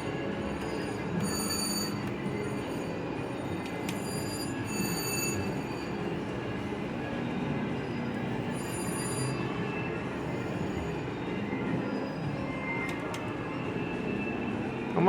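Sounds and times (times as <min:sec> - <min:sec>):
crowd and machine noise: 0:00.0 - 0:15.0.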